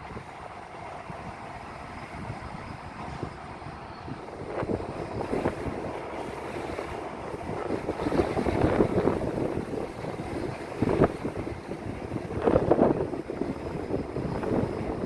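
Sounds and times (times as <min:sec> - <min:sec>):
wind and rain on microphone: 0:00.0 - 0:15.0.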